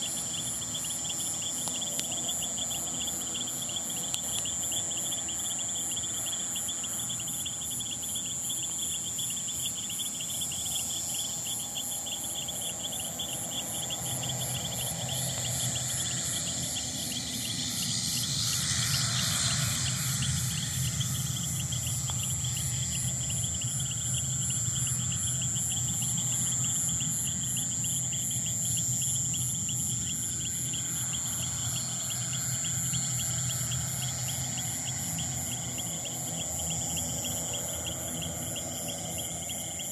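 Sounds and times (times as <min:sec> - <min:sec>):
constant high whine: 0:00.0 - 0:39.9
insects chirping in trills: 0:00.0 - 0:39.9.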